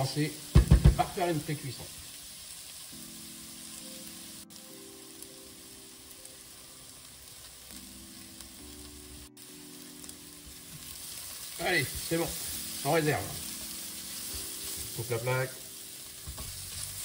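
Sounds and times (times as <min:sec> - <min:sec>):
soft background music: 0:00.0 - 0:17.0
vegetables sizzling in oil: 0:00.0 - 0:17.0.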